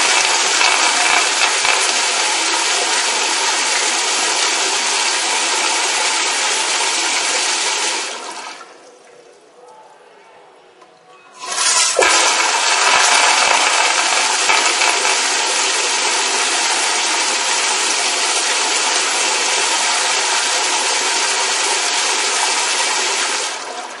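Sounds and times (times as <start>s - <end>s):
toilet flushing: 0.0s - 9.0s, 11.4s - 24.0s.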